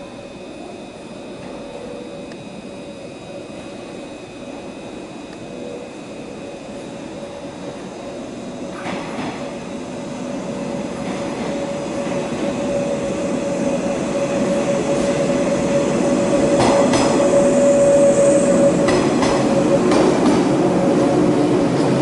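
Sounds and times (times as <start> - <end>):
electric train whine: 0.0 - 22.0.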